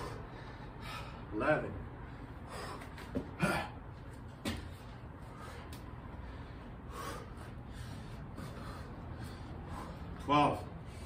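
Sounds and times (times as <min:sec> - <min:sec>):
man breathing hard: 0:00.0 - 0:04.0, 0:05.0 - 0:11.0.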